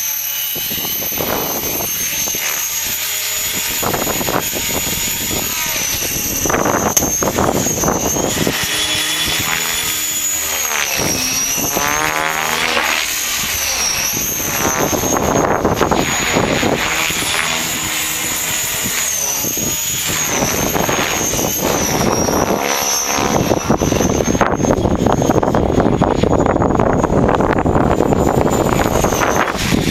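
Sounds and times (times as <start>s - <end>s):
rc helicopter high whine: 0.0s - 29.9s
wind buffeting microphone: 0.5s - 29.9s.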